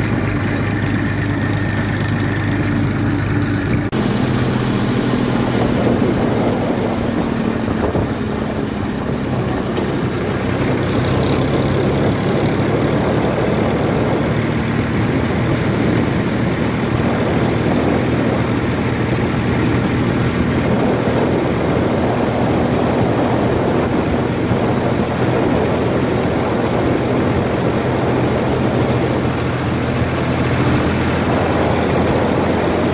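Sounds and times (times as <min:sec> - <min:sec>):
diesel engine running steadily: 0:00.0 - 0:32.9.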